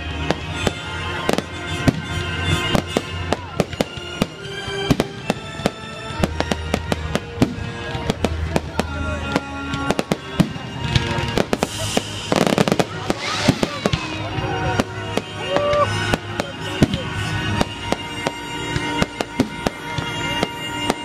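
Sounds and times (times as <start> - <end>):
fireworks bursting bangs and crackles: 0.0 - 21.0.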